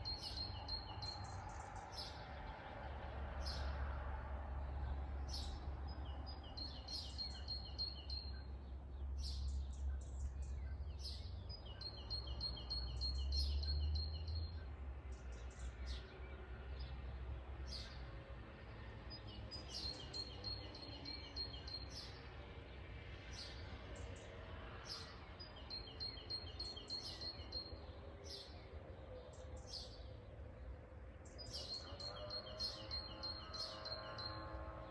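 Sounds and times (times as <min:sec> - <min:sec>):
songbird chirping: 0:00.0 - 0:03.9, 0:04.6 - 0:34.9.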